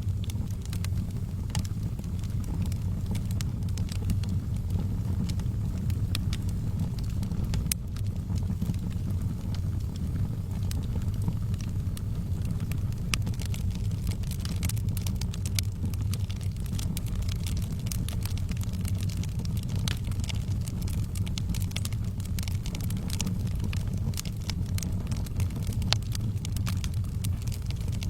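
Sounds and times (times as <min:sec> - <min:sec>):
low rumble: 0:00.0 - 0:28.0
wood fire crackling and popping: 0:00.0 - 0:28.0.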